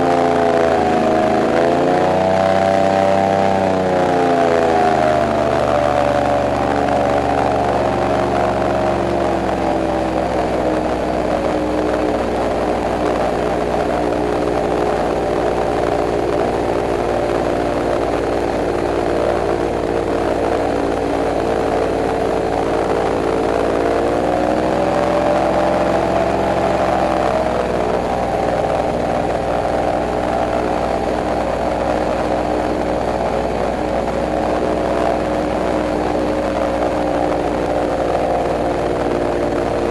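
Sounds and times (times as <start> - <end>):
airboat engine drone: 0.0 - 39.9.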